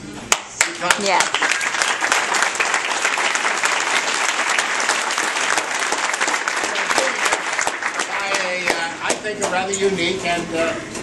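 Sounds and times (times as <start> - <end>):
audience applauding: 0.3 - 9.6.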